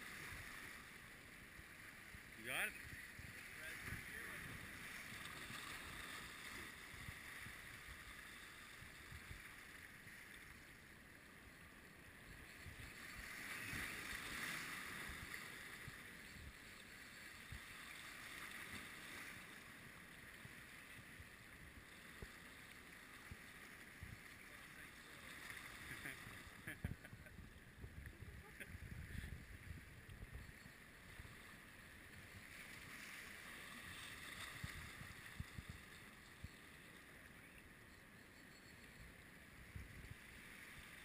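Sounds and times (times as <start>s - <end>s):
soft outdoor hiss: 0.0s - 41.0s.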